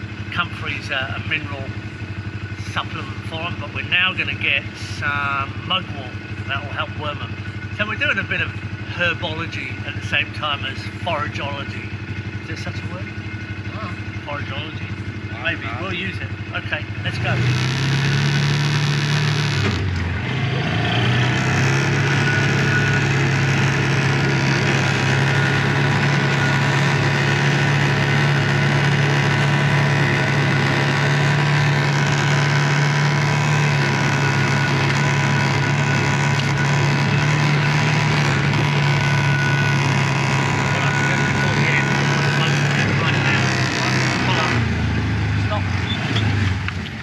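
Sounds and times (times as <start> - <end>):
utility vehicle engine running: 0.0 - 47.0.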